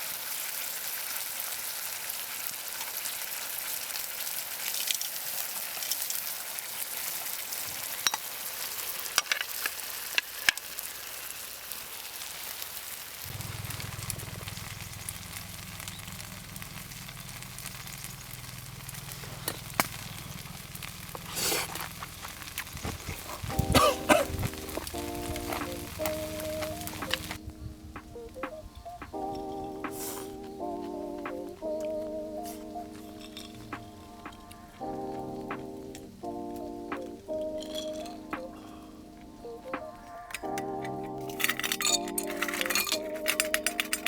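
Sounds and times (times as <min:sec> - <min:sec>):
food sizzling with pops: 0:00.0 - 0:44.0.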